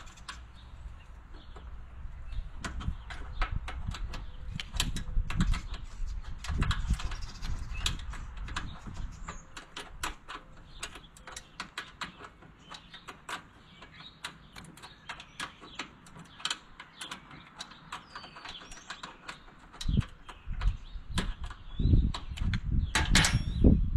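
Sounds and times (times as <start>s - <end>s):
hand tools clicking on metal: 2.6s - 23.6s.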